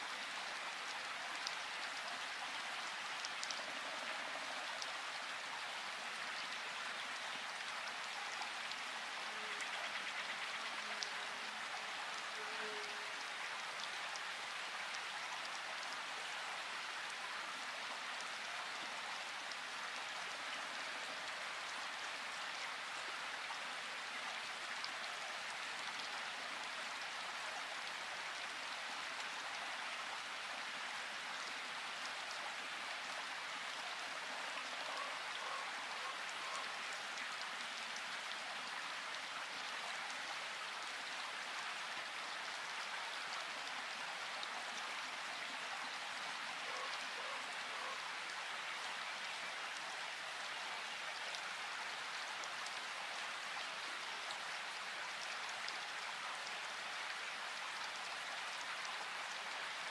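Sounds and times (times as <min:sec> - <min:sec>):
rain-like hiss: 0:00.0 - 0:59.9.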